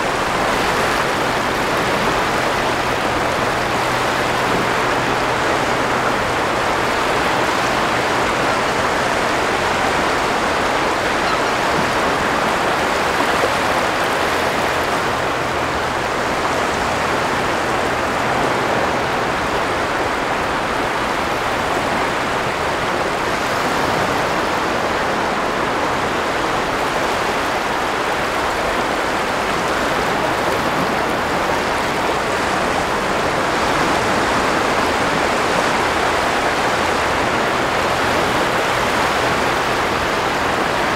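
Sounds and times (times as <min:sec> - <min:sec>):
sea surf rushing over sand: 0:00.0 - 0:40.9.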